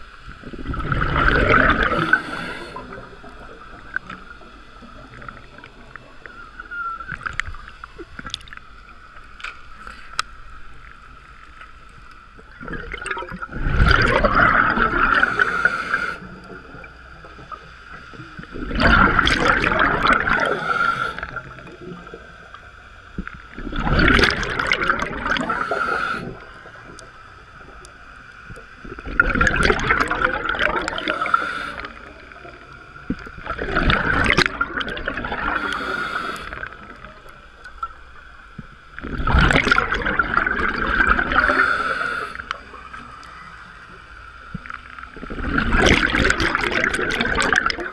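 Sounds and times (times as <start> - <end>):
exhaled bubbles rushing underwater: 0.0 - 9.3, 12.4 - 47.9.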